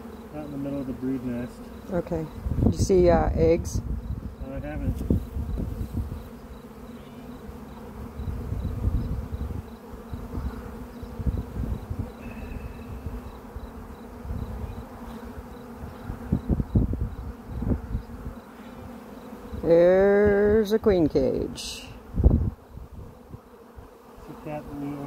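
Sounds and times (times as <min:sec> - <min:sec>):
honey bees buzzing: 0:00.0 - 0:25.0.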